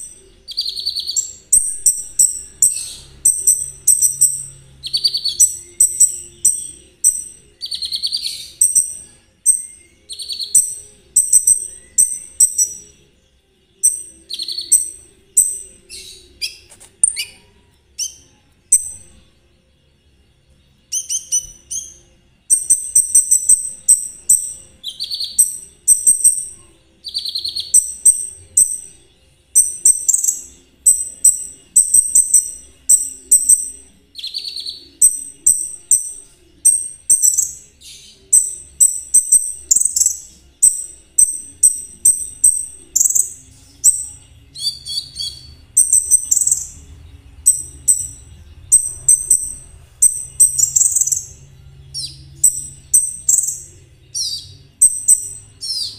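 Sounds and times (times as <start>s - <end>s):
bird singing high jingling chirps: 0.0s - 55.9s.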